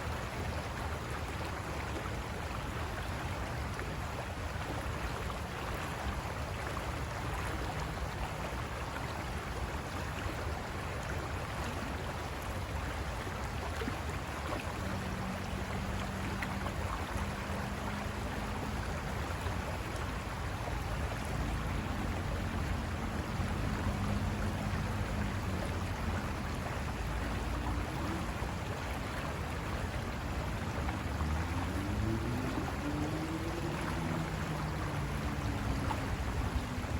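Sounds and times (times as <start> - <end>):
water rushing over rocks: 0.0 - 36.9.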